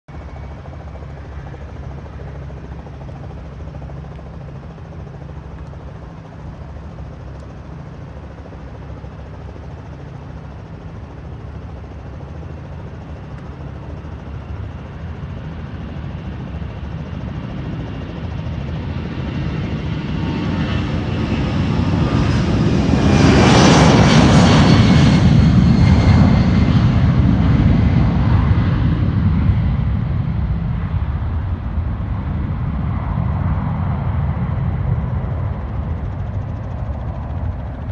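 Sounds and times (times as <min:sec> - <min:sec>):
jet airliner engines roaring: 0:00.1 - 0:37.9.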